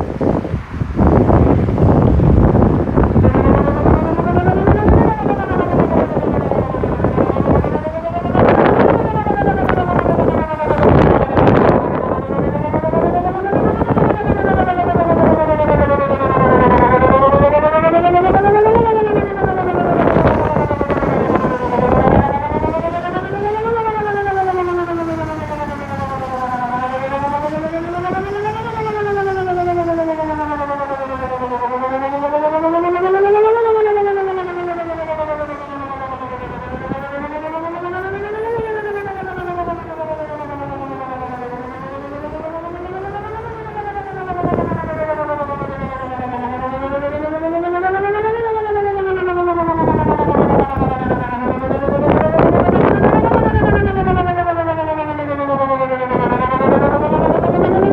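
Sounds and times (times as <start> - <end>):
warning siren wailing: 0.0 - 57.9.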